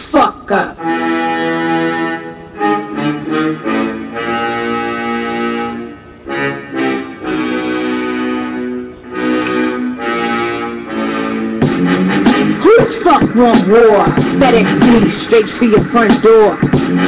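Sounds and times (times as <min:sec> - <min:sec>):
held keyboard chords: 0:00.0 - 0:17.0.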